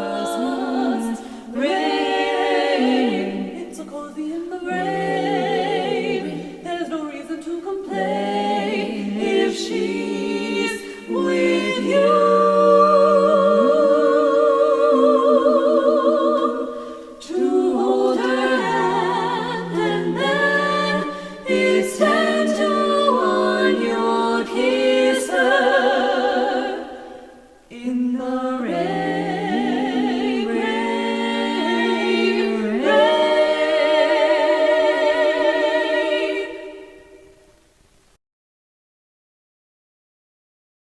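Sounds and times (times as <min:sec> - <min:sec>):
women singing a cappella harmony: 0:00.0 - 0:37.6.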